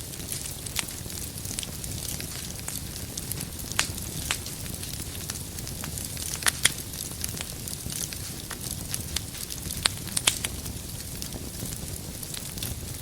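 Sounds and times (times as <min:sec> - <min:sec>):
firewood crackling and popping: 0:00.0 - 0:13.0
low hiss of flames: 0:00.0 - 0:13.0.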